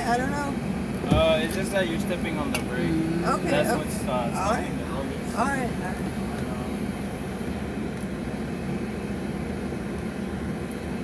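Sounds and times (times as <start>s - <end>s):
car wash machinery rumble: 0.0s - 11.0s.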